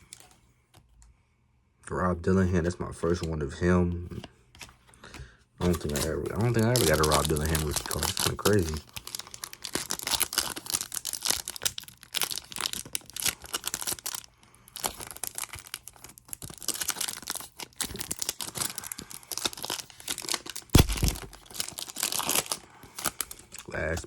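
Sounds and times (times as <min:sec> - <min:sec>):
card pack wrappers crinkling and tearing: 0:04.6 - 0:24.0.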